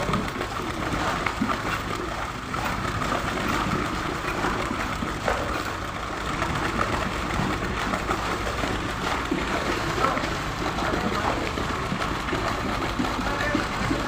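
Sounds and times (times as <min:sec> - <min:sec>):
concrete pump running: 0:00.0 - 0:14.0.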